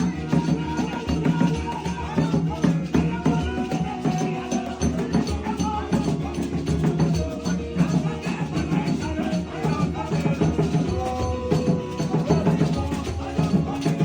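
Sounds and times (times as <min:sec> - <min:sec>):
gospel music held chords: 0:00.0 - 0:14.0.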